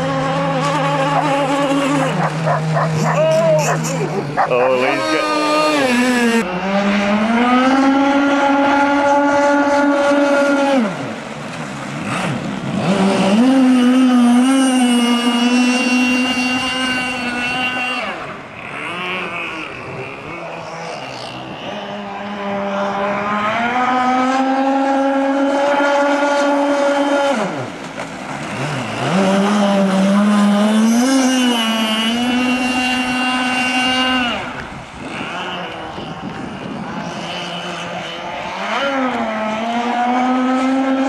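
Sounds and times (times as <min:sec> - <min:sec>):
model boat engine whining: 0:00.0 - 0:41.0.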